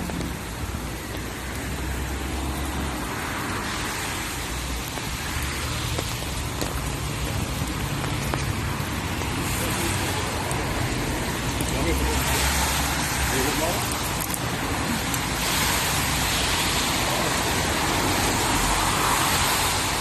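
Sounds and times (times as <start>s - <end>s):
cars passing on wet road: 0.0s - 20.0s
steady rain: 0.0s - 20.0s.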